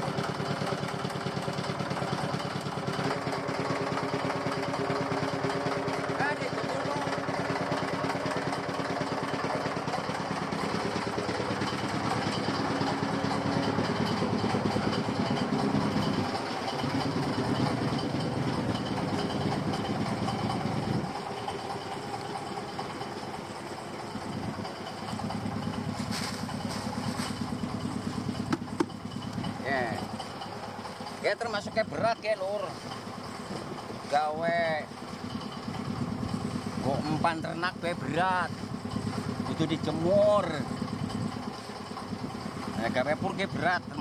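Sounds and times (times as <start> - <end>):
small engine running: 0.0 - 44.0.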